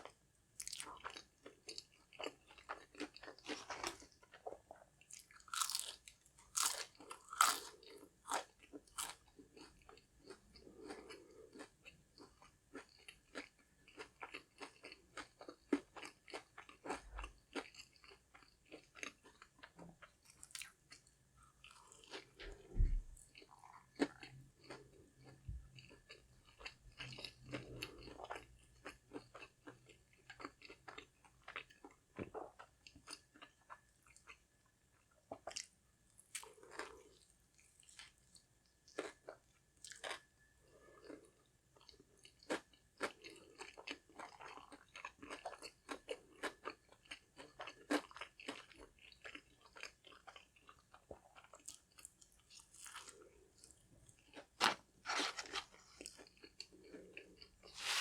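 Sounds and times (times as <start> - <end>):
crunchy chewing: 0.6 - 34.4, 35.3 - 58.0.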